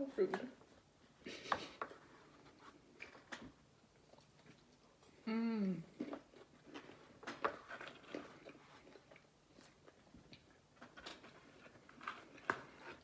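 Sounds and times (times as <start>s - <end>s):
chewing food: 1.7s - 13.0s.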